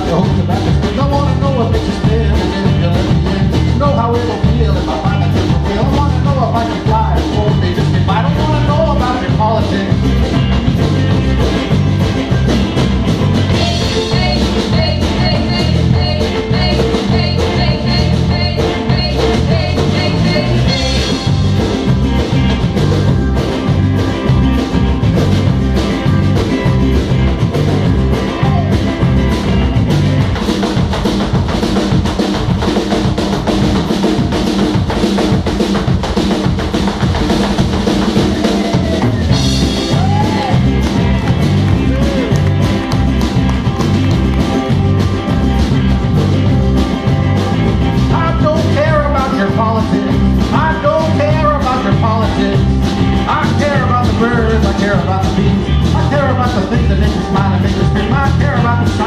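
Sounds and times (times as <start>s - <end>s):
drum kit beat: 0.0s - 59.0s
electric bass: 0.0s - 59.0s
strummed guitars: 0.0s - 59.0s.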